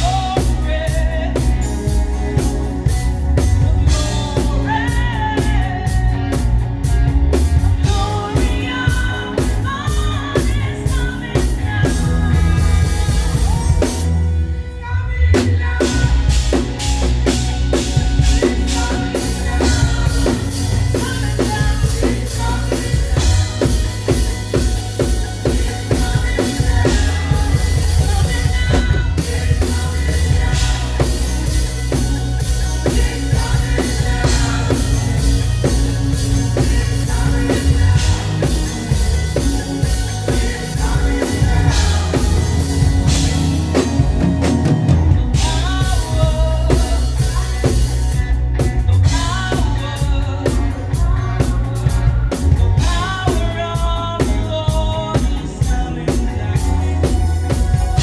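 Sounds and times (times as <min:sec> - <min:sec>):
band with drum kit: 0:00.0 - 0:58.0
voices singing: 0:00.0 - 0:58.0.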